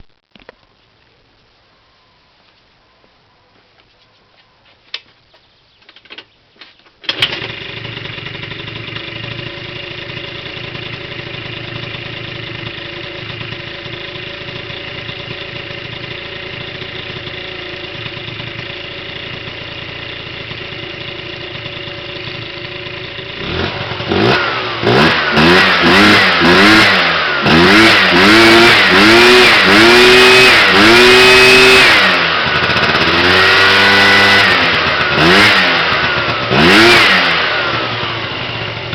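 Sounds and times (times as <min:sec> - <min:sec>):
scooter engine idling and revving: 0:07.1 - 0:38.9.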